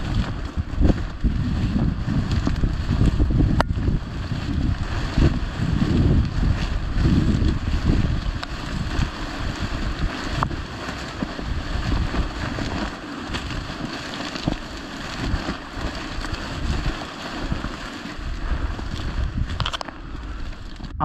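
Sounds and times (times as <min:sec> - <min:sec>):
footsteps through dry grass: 0:00.0 - 0:20.9
stalks rustling against camera: 0:00.0 - 0:21.0
wind buffeting the microphone: 0:00.0 - 0:21.0.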